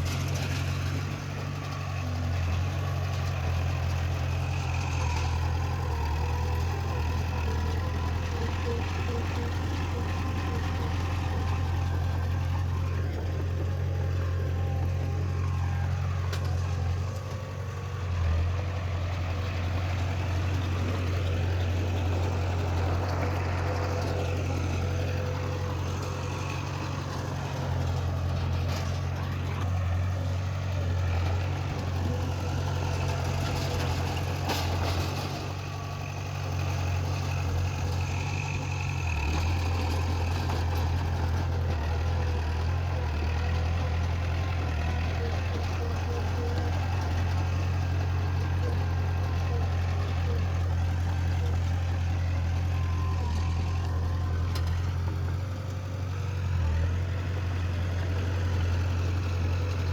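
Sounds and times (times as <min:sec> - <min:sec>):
heavy diesel machinery drone: 0:00.0 - 0:59.9.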